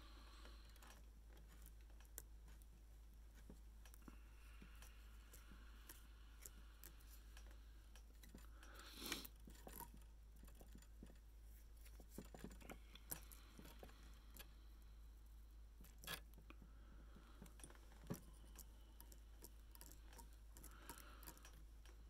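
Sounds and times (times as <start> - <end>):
faint clicks and rustles of hands: 0.0 - 22.0.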